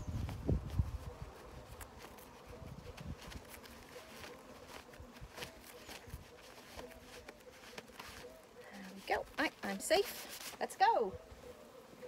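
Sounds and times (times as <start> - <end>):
honeybees buzzing: 0.0 - 12.0
rustles and knocks of handling: 0.2 - 10.7.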